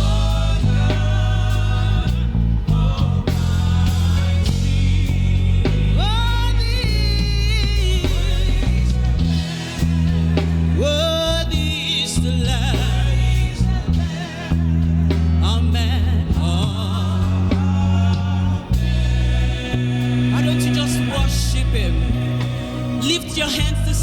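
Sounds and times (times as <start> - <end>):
deep bass line: 0.0 - 24.0
sustained keyboard chords: 0.0 - 24.0.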